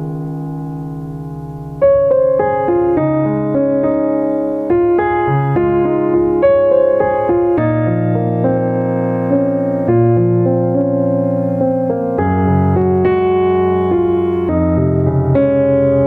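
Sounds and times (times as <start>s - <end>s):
slow piano piece: 0.0s - 16.0s.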